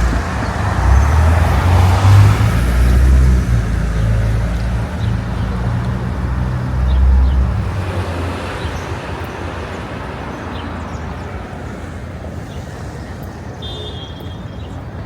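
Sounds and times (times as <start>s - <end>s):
passing vehicle engine hum: 0.0s - 13.6s
road traffic noise: 0.0s - 15.0s.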